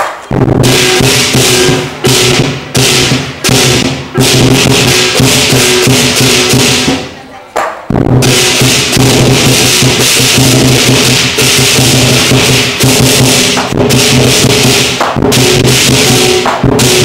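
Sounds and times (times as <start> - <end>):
big drum beating: 0.0 - 7.2, 7.8 - 17.0
crashing cymbals: 0.1 - 7.1, 8.0 - 17.0.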